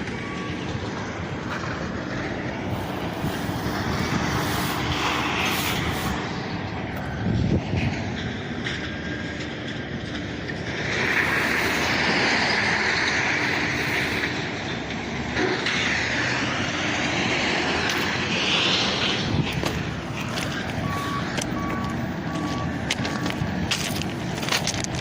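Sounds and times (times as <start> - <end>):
vehicle noise: 0.0 - 25.0.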